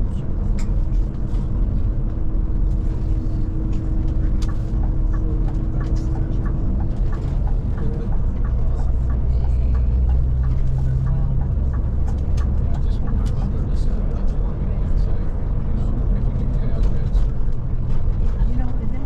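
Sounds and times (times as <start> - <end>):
diesel engine and road rumble: 0.0 - 19.0.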